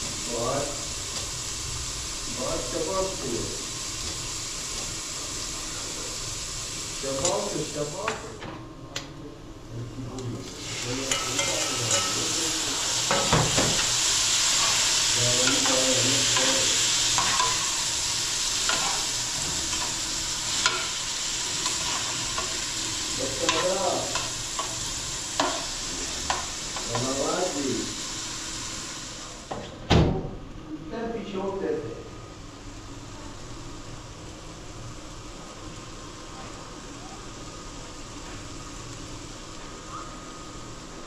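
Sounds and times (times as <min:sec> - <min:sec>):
tomatoes sizzling in a frying pan: 0:00.0 - 0:08.4, 0:09.7 - 0:29.7, 0:31.5 - 0:41.0.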